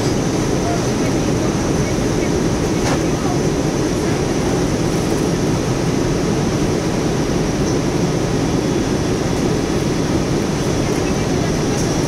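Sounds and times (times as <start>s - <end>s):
airliner cabin engine rush: 0.0s - 12.0s.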